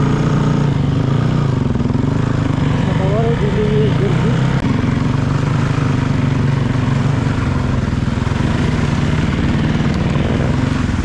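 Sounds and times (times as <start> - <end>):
vehicle engine running: 0.0 - 11.0
wind and road noise: 0.0 - 11.0.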